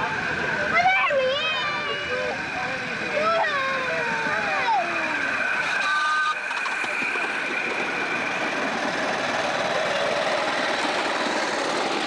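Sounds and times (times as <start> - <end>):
steam locomotive chuffing: 0.0 - 12.0.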